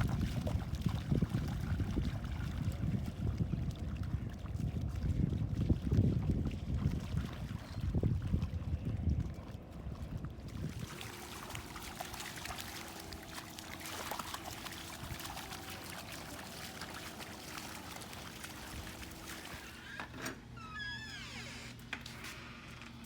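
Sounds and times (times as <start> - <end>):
lake water lapping: 0.0 - 20.0.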